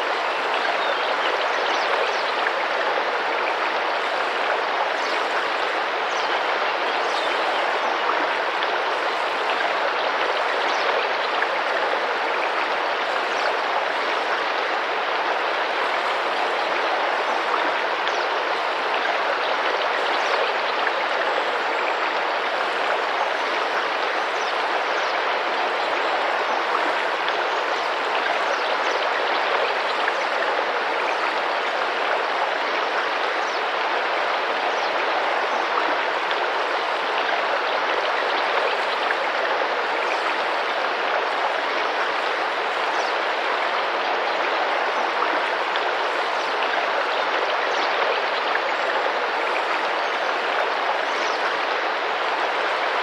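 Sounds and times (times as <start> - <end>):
river water flowing and splashing: 0.0 - 53.0.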